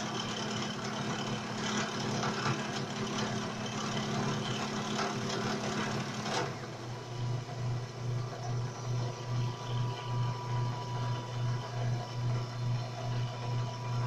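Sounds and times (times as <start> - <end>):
drill press motor humming: 0.0 - 14.0.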